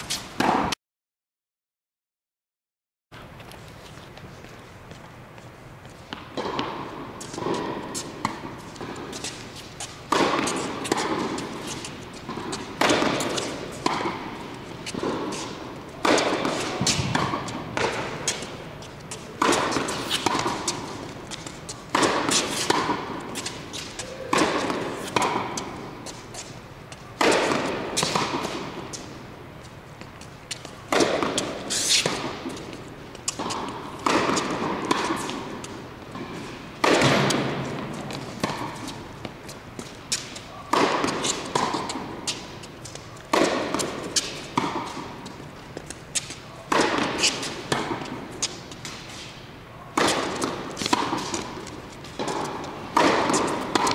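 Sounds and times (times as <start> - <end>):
tennis ball struck and bouncing: 0.1 - 0.8, 6.1 - 29.3, 30.0 - 53.9.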